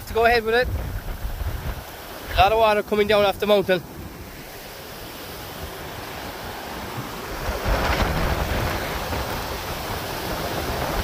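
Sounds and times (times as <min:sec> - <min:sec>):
stream rushing white water: 0:00.0 - 0:11.0
wind rumbling on microphone: 0:00.0 - 0:11.0.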